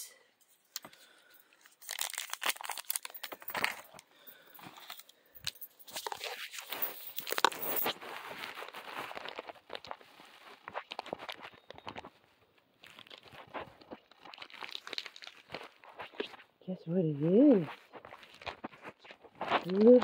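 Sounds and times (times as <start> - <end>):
cardboard and paper crinkling: 0.7 - 16.5, 17.1 - 20.0.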